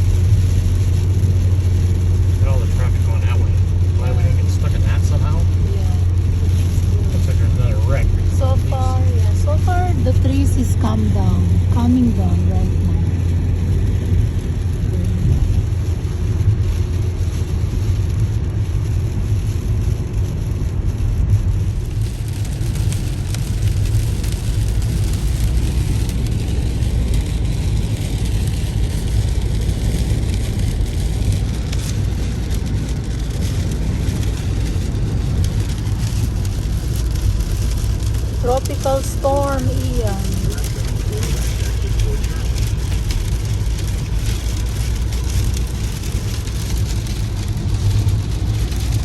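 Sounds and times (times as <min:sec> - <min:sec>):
car road noise rumble: 0:00.0 - 0:49.0
rain and wet road hiss: 0:00.0 - 0:49.0.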